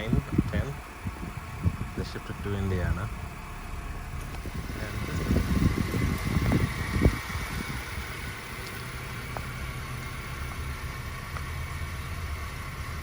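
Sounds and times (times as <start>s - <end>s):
car engine idling: 0.0s - 13.0s
low bumps of noise: 0.0s - 13.0s.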